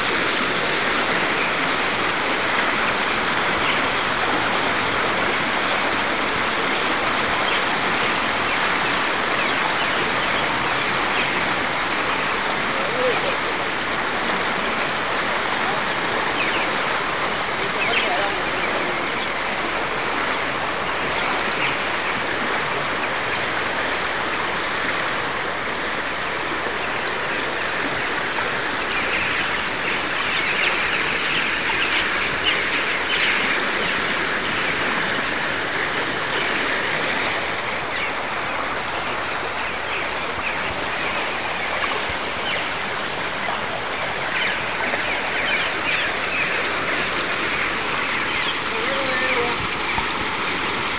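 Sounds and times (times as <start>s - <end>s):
turbulent water rushing: 0.0s - 50.9s.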